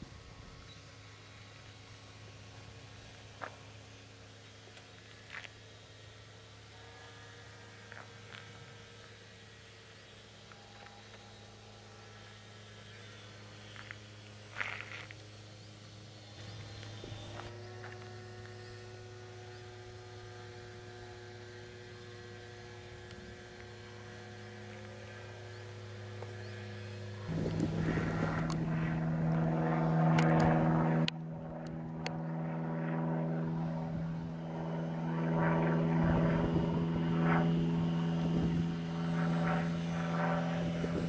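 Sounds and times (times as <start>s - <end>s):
model plane motor droning: 0.0s - 41.0s.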